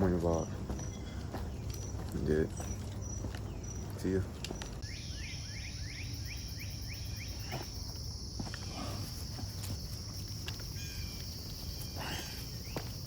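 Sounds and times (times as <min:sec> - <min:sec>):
bird chirping: 0:00.0 - 0:09.0, 0:10.0 - 0:13.0
insects buzzing: 0:00.0 - 0:13.0.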